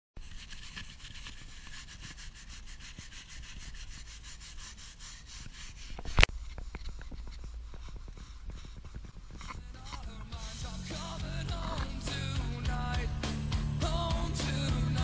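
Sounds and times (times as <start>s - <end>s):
brush scrubbing rock: 0.2s - 12.9s.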